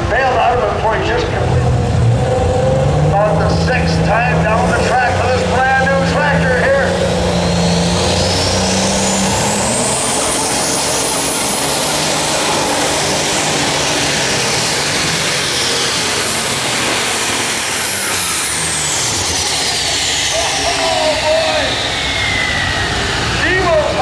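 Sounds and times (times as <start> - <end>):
diesel engine running under load: 0.0 - 24.0
high turbo whine: 0.0 - 24.0.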